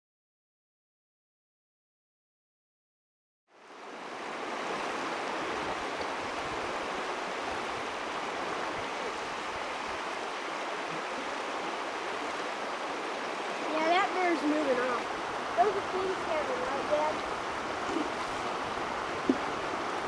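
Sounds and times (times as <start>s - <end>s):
river rushing over stones: 3.6s - 20.0s.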